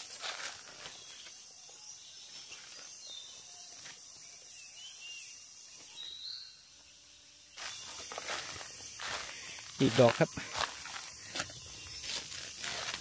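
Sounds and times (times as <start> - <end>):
high insect hiss: 0.0 - 13.0.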